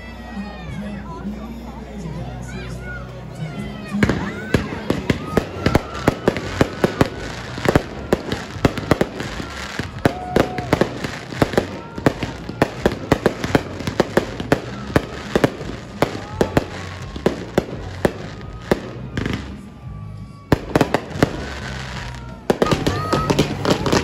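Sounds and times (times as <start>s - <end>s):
fireworks crackling and popping: 4.0s - 24.0s.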